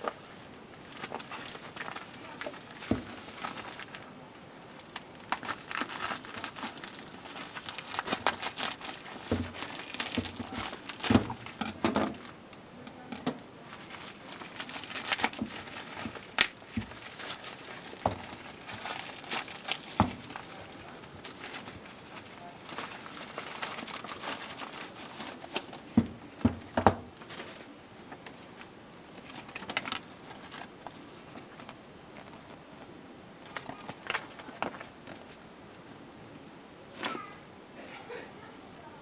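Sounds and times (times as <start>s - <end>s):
plastic and paper crinkling: 0.0s - 35.5s.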